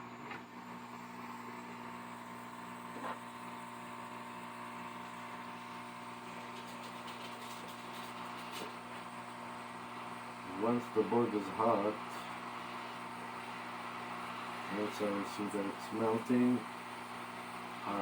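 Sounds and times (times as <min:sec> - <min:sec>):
low electrical hum: 0:00.0 - 0:18.0
hot air fan hiss: 0:02.0 - 0:18.0.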